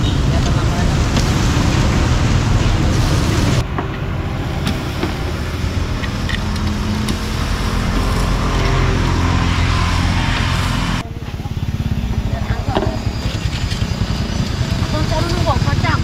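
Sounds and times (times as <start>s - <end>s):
road traffic: 0.0s - 16.0s
vehicle engine drone: 0.0s - 16.0s.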